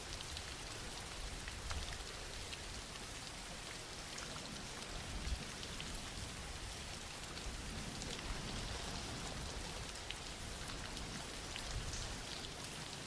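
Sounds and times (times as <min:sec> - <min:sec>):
soft rain falling: 0:00.0 - 0:13.0.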